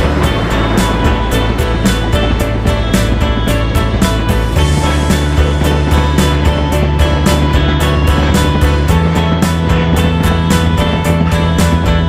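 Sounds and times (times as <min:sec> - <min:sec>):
bass line: 0:00.0 - 0:12.0
drum beat: 0:00.0 - 0:12.0.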